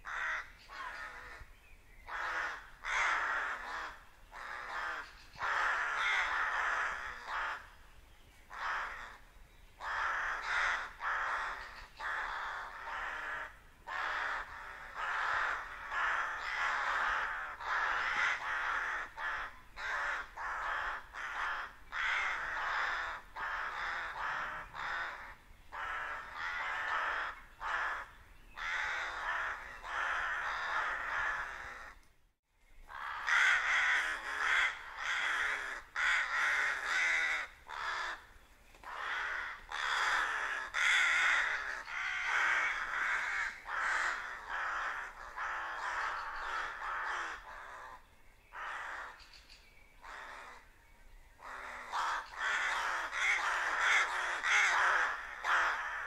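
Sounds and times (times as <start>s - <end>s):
rooks cawing: 0.0s - 7.8s, 8.5s - 32.0s, 32.9s - 49.2s, 50.0s - 50.7s, 51.4s - 56.0s.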